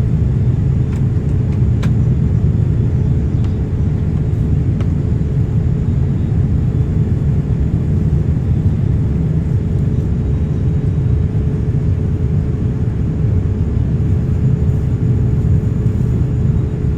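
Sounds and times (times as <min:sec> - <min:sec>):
jet engine cabin rumble: 0:00.0 - 0:16.9.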